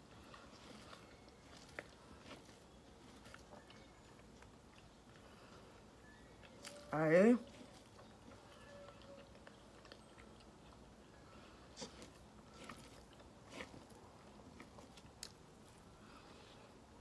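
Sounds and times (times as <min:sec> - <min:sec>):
person chewing: 0:00.0 - 0:17.0.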